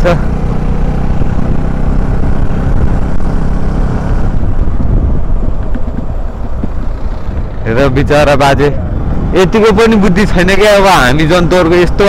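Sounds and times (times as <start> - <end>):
motorcycle engine running: 0.0 - 12.0
wind rumble on microphone: 0.9 - 11.1.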